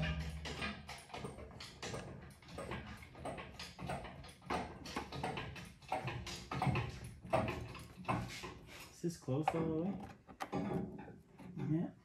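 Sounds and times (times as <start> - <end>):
hydraulic hoist pumping clunks: 0.0 - 11.9.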